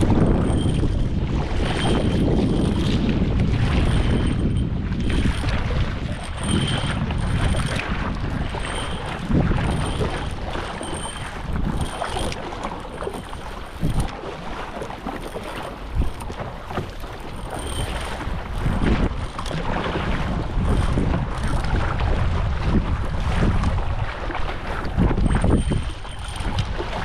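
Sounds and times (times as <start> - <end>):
water lapping and splashing: 0.0 - 27.0
wind buffeting microphone: 0.0 - 27.0.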